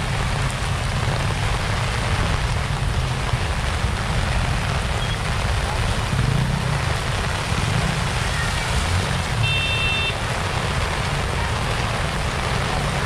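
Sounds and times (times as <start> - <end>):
car driving through water: 0.0 - 13.0
heavy rain pouring: 0.0 - 13.0.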